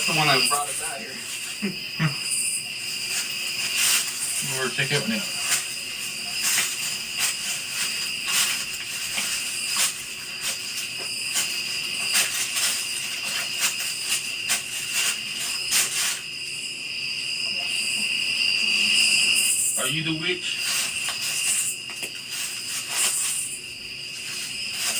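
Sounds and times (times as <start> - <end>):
night insects chirring: 0.0 - 24.9.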